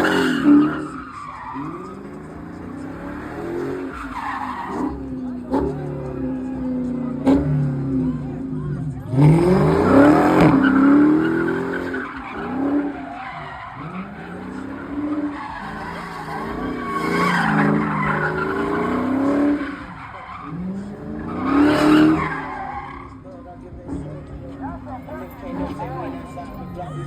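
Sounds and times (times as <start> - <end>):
car engine revving: 0.0 - 27.0
tyres squealing: 0.0 - 27.0.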